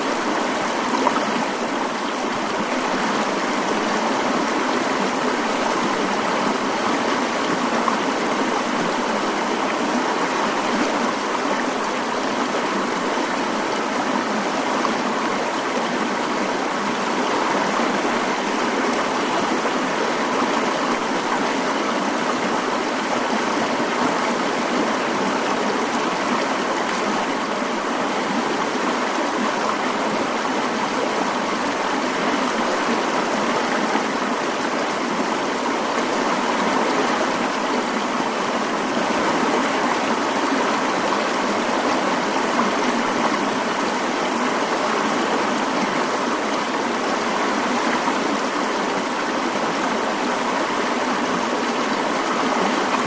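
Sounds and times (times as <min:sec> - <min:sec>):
mountain stream flowing: 0:00.0 - 0:53.0.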